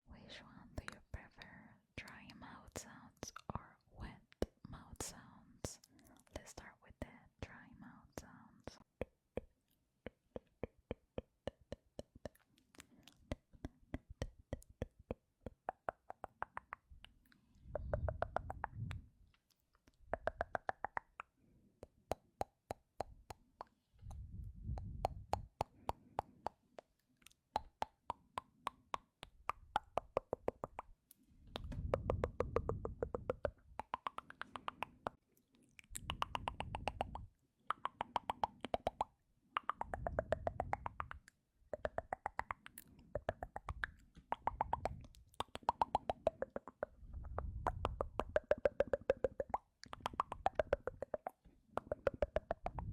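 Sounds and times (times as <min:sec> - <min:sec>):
tongue clicks and lip pops: 0:00.7 - 0:52.9.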